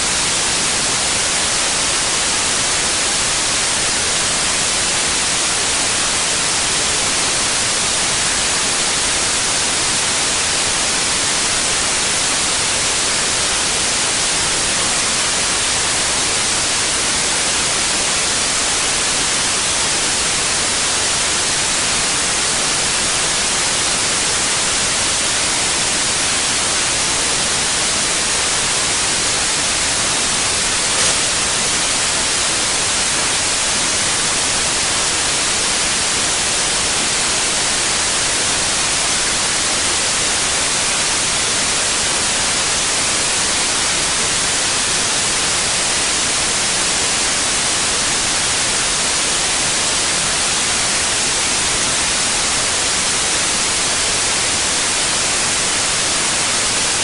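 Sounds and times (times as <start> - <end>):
steady white noise hiss: 0.0 - 57.0.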